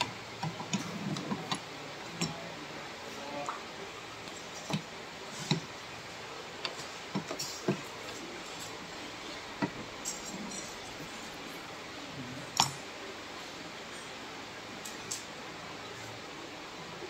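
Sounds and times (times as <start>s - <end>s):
low room hiss: 0.0s - 17.0s.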